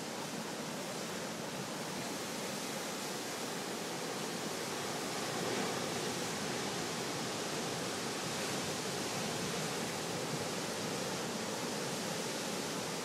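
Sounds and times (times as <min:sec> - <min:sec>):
ocean surf breaking on rocks: 0:00.2 - 0:13.0.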